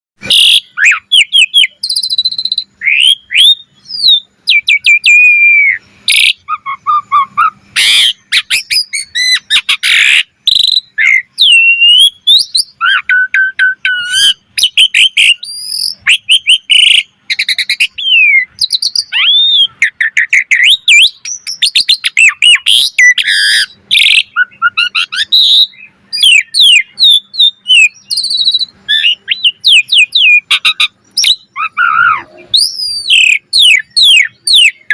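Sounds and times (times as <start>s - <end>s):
starling singing: 0.2s - 34.9s.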